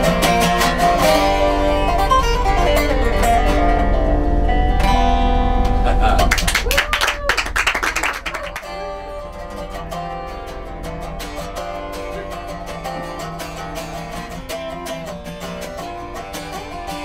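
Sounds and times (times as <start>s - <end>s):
picked acoustic guitar: 0.0s - 17.0s.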